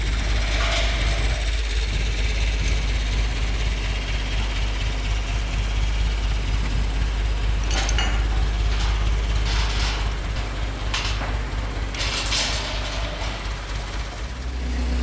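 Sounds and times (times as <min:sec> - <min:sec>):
workshop machinery noise: 0:00.0 - 0:15.0.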